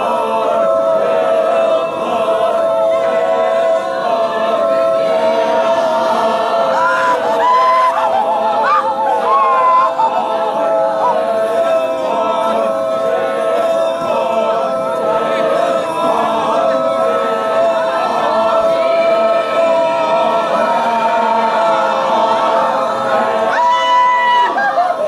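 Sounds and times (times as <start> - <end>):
group singing without instruments: 0.0 - 25.0.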